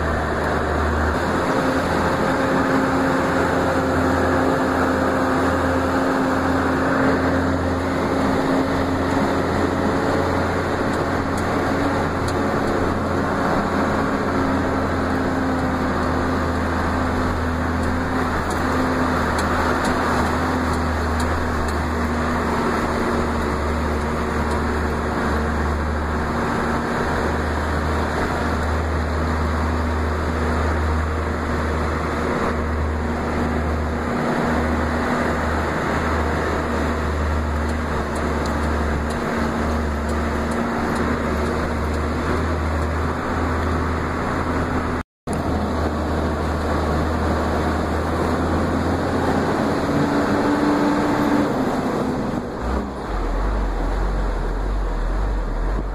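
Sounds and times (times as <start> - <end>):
vehicle engine and road noise: 0.0 - 55.9.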